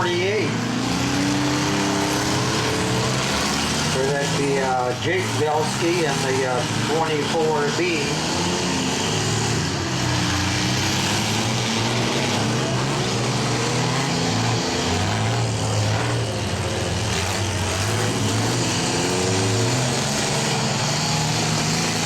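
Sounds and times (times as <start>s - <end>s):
engines revving: 0.0s - 22.0s.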